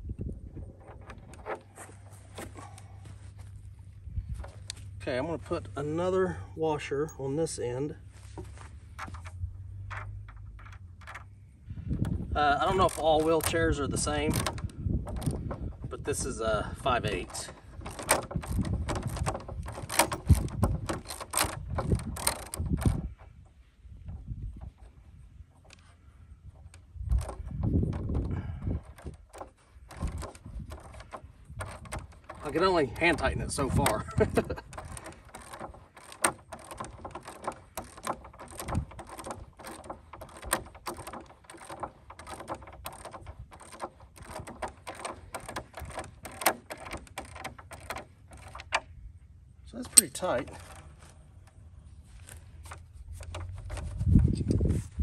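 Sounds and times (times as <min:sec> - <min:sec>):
small metal clicks and rattles: 0:08.4 - 0:54.7.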